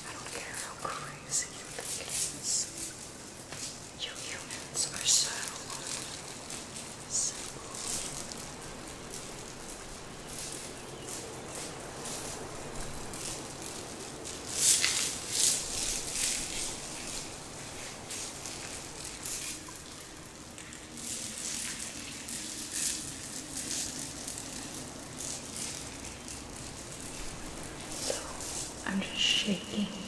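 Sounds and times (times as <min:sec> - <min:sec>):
soft steady background hiss: 0:00.0 - 0:30.0.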